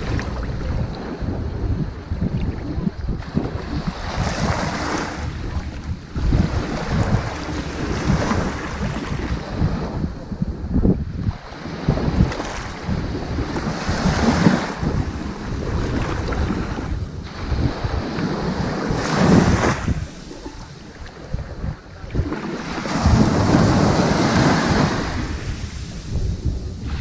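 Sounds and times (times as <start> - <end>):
waves breaking on sandy beach: 0.0 - 27.0.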